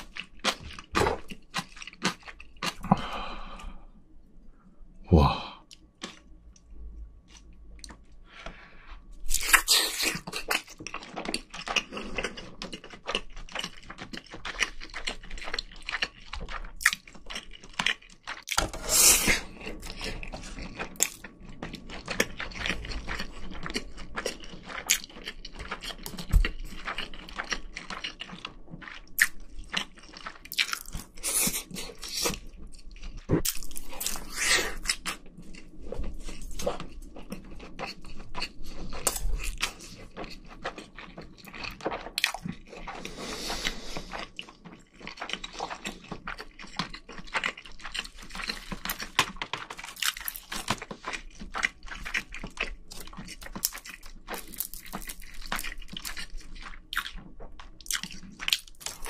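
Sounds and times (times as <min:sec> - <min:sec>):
chewing with wet clicks and crunches: 0:00.0 - 0:03.7, 0:05.6 - 0:18.6, 0:19.3 - 0:59.0.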